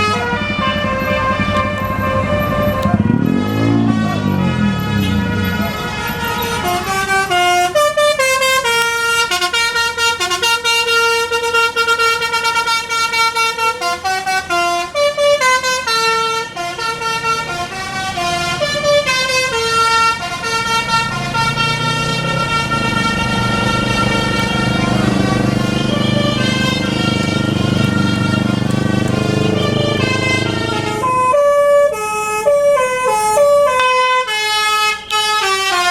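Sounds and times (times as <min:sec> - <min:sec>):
musical bus horn melody: 0:00.0 - 0:35.9.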